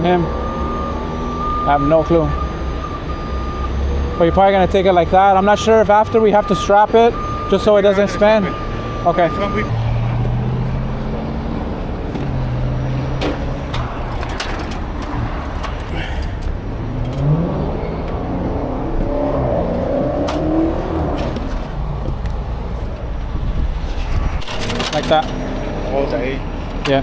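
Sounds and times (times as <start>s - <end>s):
diesel truck engine drone: 0.0s - 27.0s.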